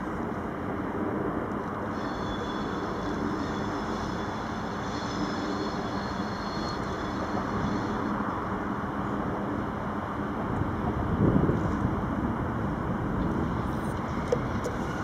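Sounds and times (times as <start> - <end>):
distant freight train rumble: 0.0 - 15.0
faint high whine: 0.0 - 15.0.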